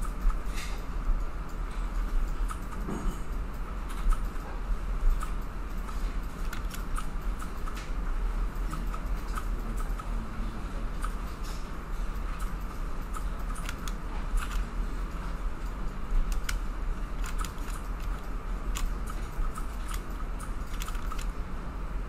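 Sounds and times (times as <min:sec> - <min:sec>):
keyboard and mouse clicking: 0:00.0 - 0:00.9, 0:01.5 - 0:10.2, 0:11.0 - 0:21.3
low electrical hum and hiss: 0:00.0 - 0:22.0.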